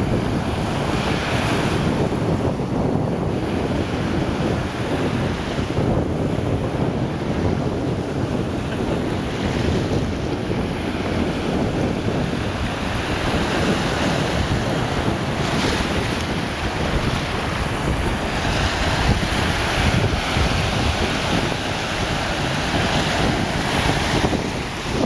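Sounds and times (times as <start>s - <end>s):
small waves breaking on beach: 0.0s - 25.0s
wind buffeting microphone: 0.0s - 25.0s.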